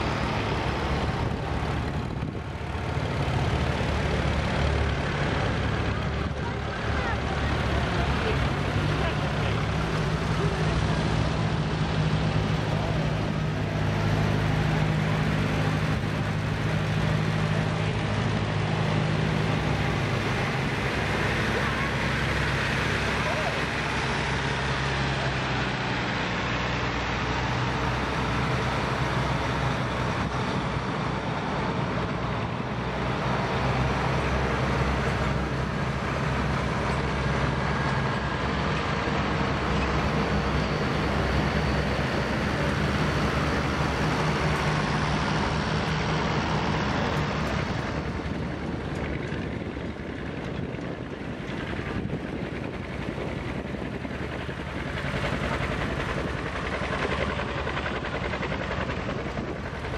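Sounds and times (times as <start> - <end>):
tractor engines driving past: 0.0 - 59.9.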